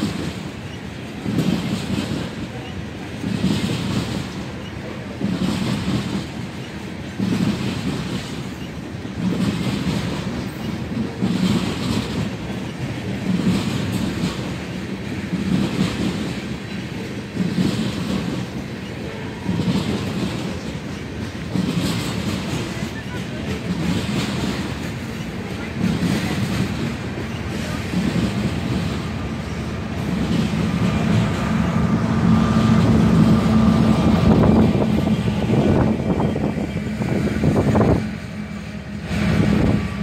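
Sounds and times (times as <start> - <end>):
steady train rumble: 0.0 - 40.0
train wheels clacking on rails: 0.0 - 40.0.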